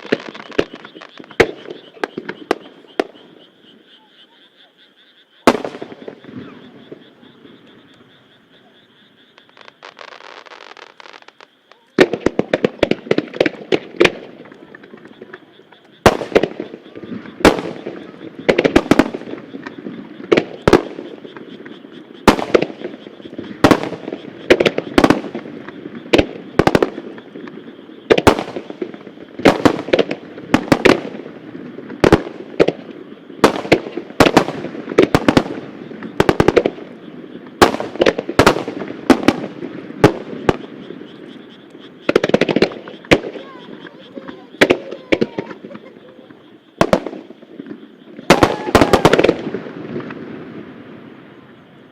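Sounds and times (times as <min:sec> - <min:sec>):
fireworks bursting: 0:00.0 - 0:03.5, 0:05.4 - 0:08.1, 0:09.3 - 0:51.6.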